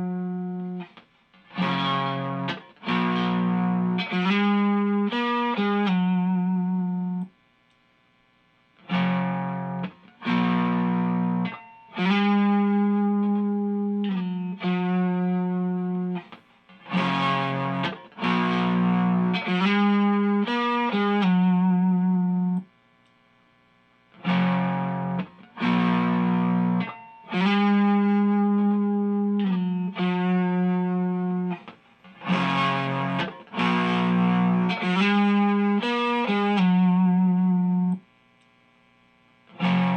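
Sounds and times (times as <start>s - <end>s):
distorted electric guitar riff: 0.0s - 7.3s, 8.8s - 22.9s, 24.1s - 39.9s.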